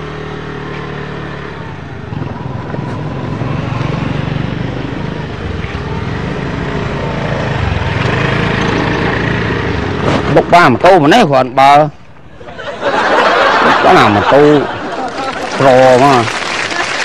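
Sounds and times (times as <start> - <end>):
motorbike engines running: 0.0 - 17.0.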